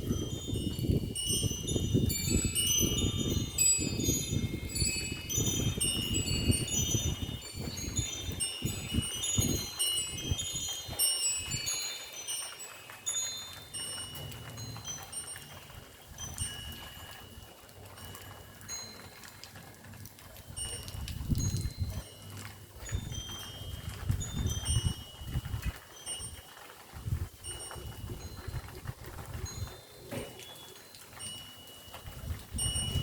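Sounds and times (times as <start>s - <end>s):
wind chime tinkling: 0.0s - 33.0s.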